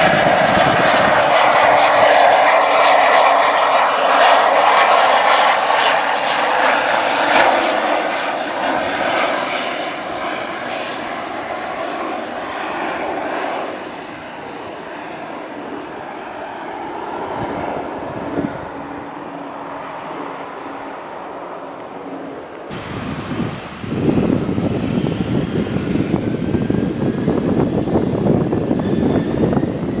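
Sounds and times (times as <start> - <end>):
turboprop aircraft rolling on runway: 0.0 - 30.0.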